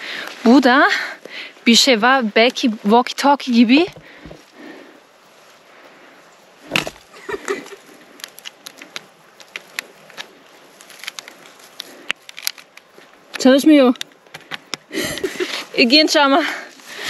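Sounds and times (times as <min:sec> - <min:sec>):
pine needles and twigs crackling: 0:00.0 - 0:17.0.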